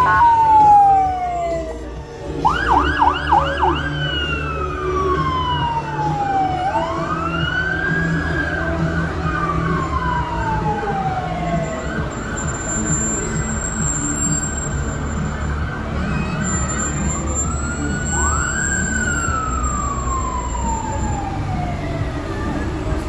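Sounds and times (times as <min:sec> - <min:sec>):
vehicle engine running low: 0:00.0 - 0:23.0
electronic siren yelping and wailing: 0:02.4 - 0:23.0.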